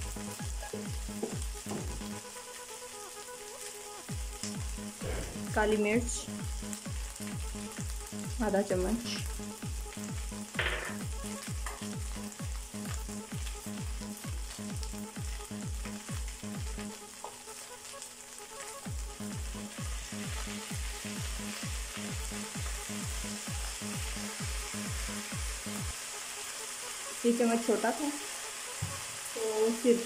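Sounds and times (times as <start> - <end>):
background music with steady beat: 0.0 - 30.0
food sizzling in a wok: 0.0 - 30.0.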